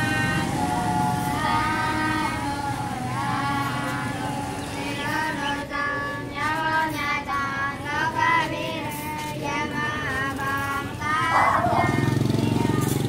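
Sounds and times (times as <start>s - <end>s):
high-pitched voices singing: 0.0s - 13.0s.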